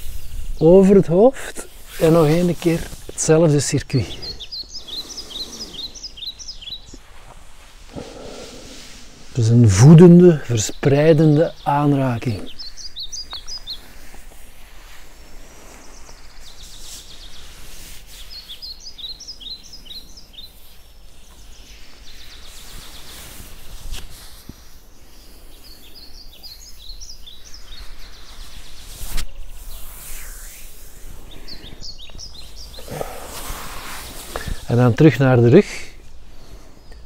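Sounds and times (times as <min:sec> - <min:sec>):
outdoor background noise: 0:00.0 - 0:37.0
songbird singing: 0:00.0 - 0:37.0.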